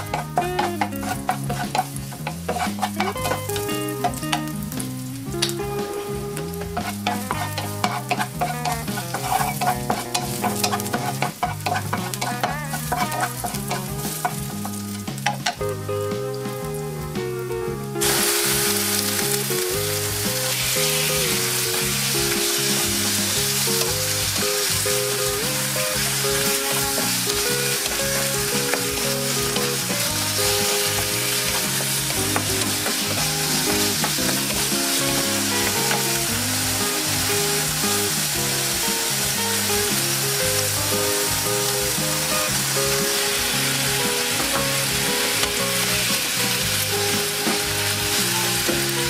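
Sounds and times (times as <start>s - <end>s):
wooden spatula stirring in pan: 0.0s - 15.7s, 18.0s - 48.7s
chicken sizzling in hot oil: 0.0s - 49.0s
quiet background music: 0.0s - 49.0s.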